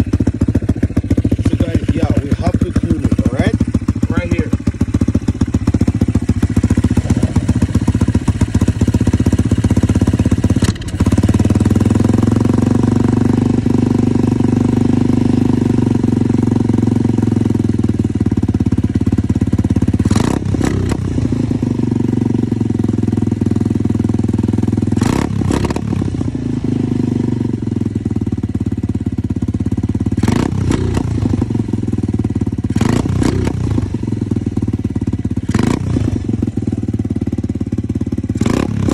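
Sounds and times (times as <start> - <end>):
dirt bike engine idling: 0.0 - 38.9.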